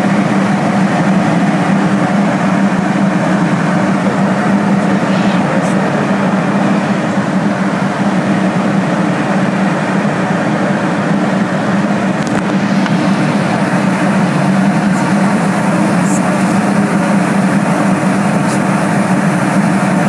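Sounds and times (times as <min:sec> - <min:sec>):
airliner cabin engine noise: 0:00.0 - 0:20.0
steady low hum: 0:00.0 - 0:20.0.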